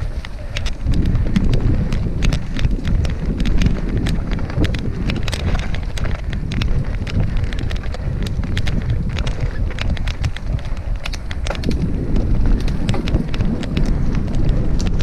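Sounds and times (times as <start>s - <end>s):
bike clicking and rattling: 0.0s - 15.0s
wind rumbling on microphone: 0.0s - 15.0s.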